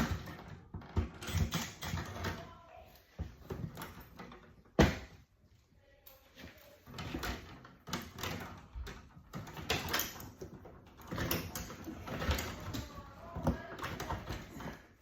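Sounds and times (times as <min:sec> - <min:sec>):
knocks and scrapes of wire handling: 0:00.0 - 0:15.0.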